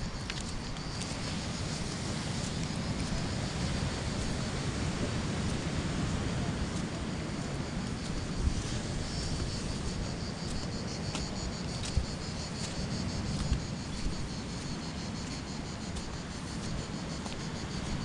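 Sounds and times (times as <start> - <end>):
footsteps on sandy path: 0.0 - 18.0
insects chirping: 0.0 - 18.0
wind rumble on microphone: 0.0 - 18.0.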